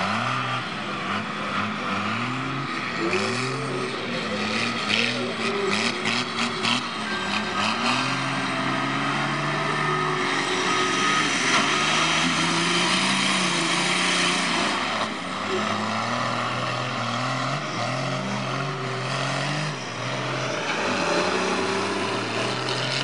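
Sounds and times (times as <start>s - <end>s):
diesel truck engines revving: 0.0s - 23.0s.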